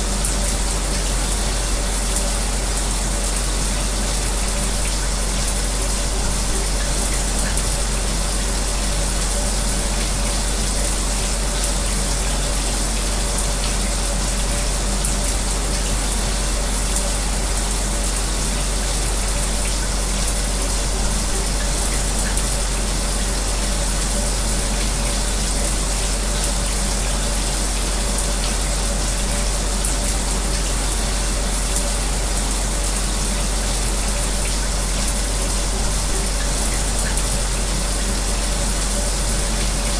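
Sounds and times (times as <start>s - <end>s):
electric fan humming: 0.0s - 39.9s
shower spray running: 0.0s - 39.9s.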